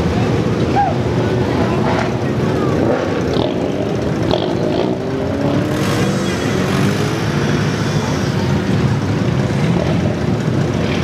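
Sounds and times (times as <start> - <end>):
car engine droning: 0.0 - 11.0
traffic rumble: 0.0 - 11.0.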